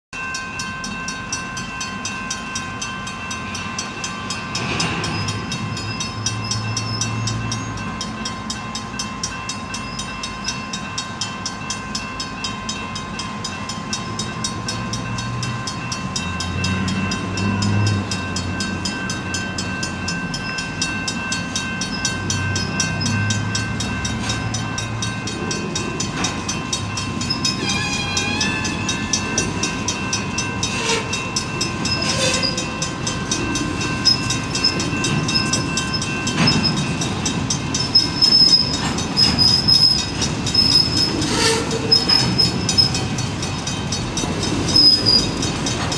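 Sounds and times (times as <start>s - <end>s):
diesel locomotive engines running: 0.2s - 45.9s.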